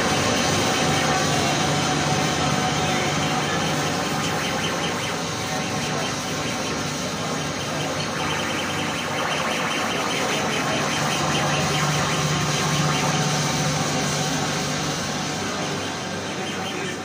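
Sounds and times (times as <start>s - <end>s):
harsh distorted noise: 0.0s - 17.0s
steady low hum: 0.0s - 17.0s.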